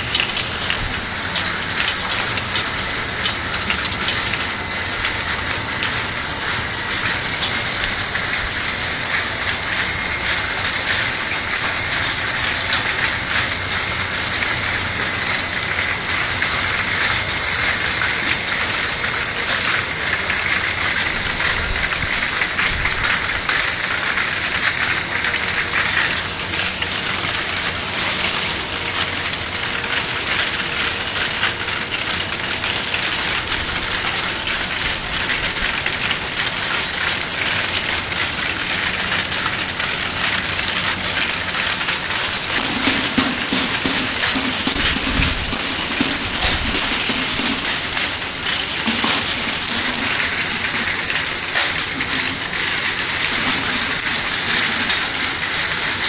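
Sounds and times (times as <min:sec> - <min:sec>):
washing machine hissing: 0:00.0 - 0:56.0.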